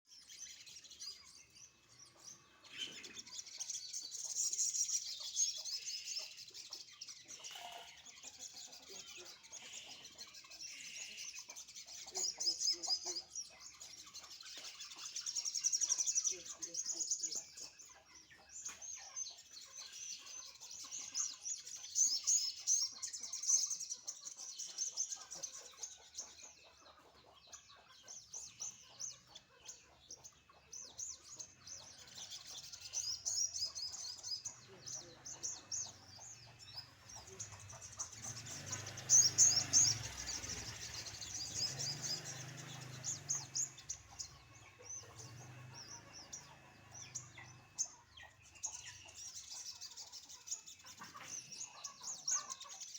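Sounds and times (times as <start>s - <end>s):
songbird twittering: 0.0s - 52.9s.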